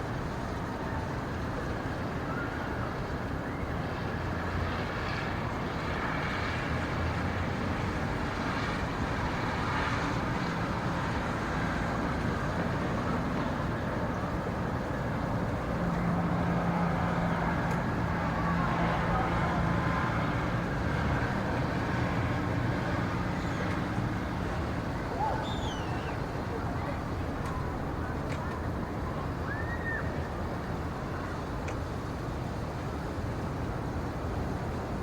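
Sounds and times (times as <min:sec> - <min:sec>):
rumbling background noise: 0:00.0 - 0:35.0.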